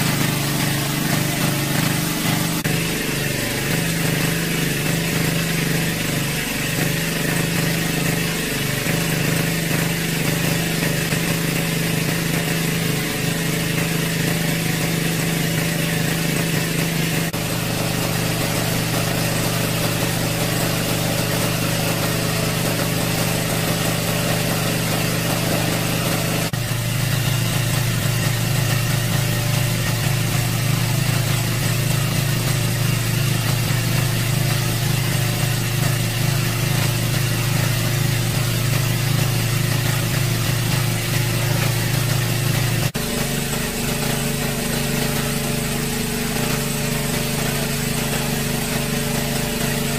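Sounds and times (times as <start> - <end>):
water pump engine humming: 0.0 - 49.9.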